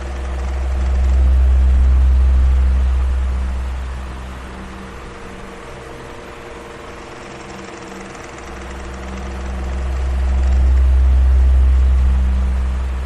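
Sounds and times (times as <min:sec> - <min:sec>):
deep low rumble: 0:00.0 - 0:07.4, 0:08.4 - 0:13.0
electric fan humming: 0:00.0 - 0:13.0.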